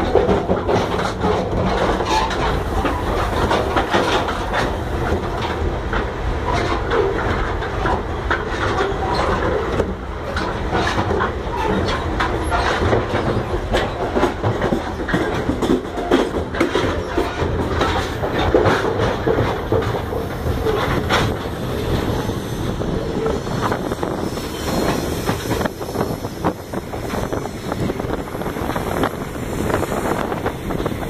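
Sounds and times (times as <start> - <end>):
clacks and knocks: 0.0 - 31.0
train wheels rumbling on rails: 0.0 - 31.0.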